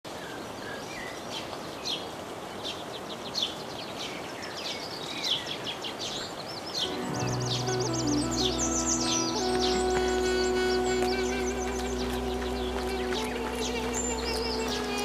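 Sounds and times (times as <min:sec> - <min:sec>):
songbirds singing: 0:00.1 - 0:15.0.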